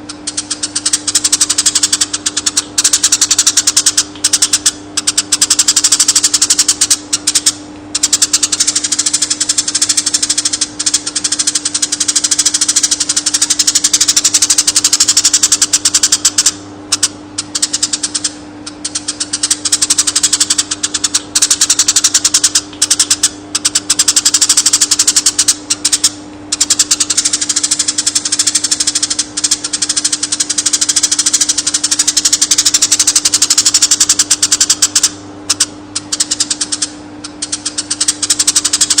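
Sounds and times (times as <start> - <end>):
bird chattering trill: 0.0 - 39.0
steady low hum: 0.0 - 39.0.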